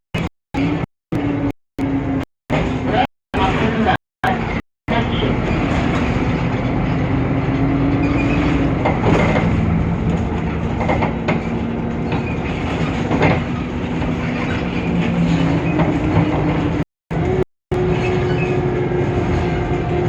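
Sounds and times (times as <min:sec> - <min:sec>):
bus engine drone: 0:00.1 - 0:20.0.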